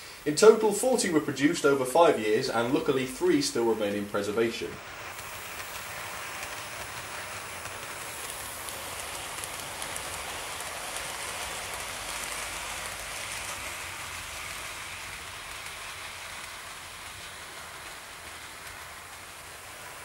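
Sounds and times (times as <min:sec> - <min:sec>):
model train wheels hissing on rails: 0:00.0 - 0:20.0.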